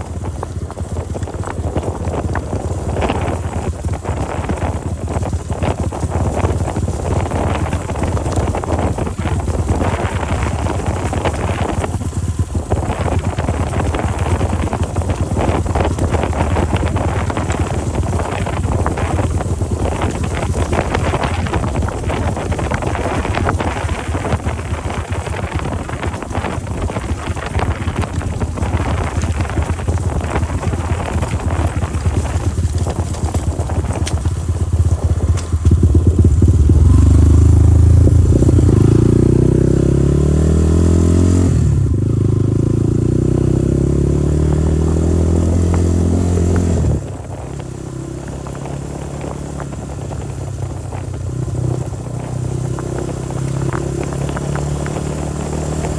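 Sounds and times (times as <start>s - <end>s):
motorcycle engine running: 0.0s - 55.9s
rough rattling noise: 0.0s - 55.9s.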